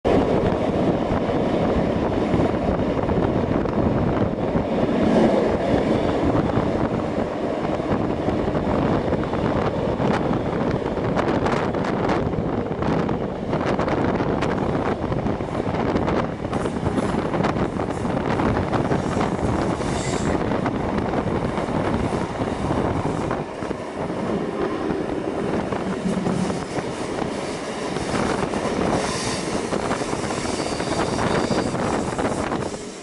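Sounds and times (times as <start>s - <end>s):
train wheels rumbling on rail: 0.0s - 33.0s
wind rushing over microphone: 0.0s - 33.0s.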